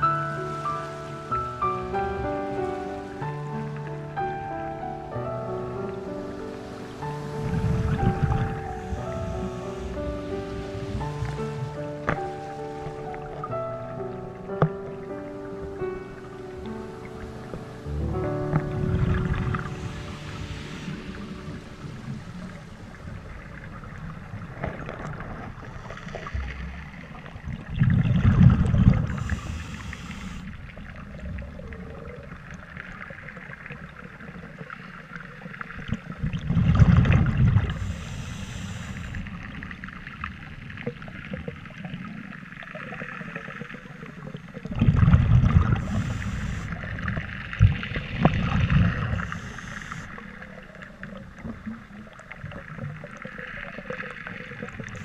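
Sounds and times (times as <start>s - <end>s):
underwater background: 0.0s - 55.0s
exhaled bubbles rushing: 7.0s - 13.7s, 16.6s - 34.9s, 35.5s - 55.0s.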